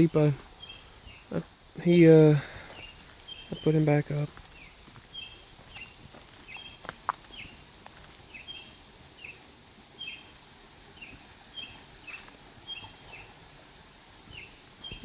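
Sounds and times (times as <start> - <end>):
bird chirping: 0.0 - 2.0, 2.6 - 7.7, 8.3 - 13.5, 14.3 - 15.0.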